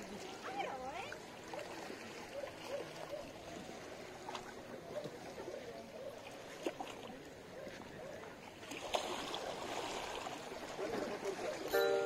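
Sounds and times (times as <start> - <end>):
moving water: 0.0 - 12.0.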